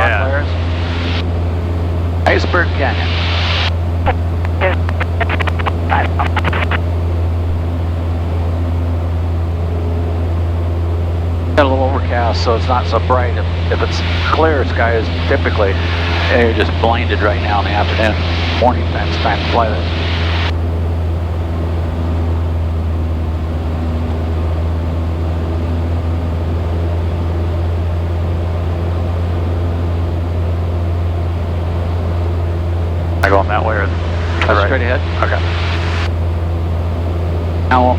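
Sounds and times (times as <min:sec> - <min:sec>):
airplane engine droning in cockpit: 0:00.0 - 0:37.9.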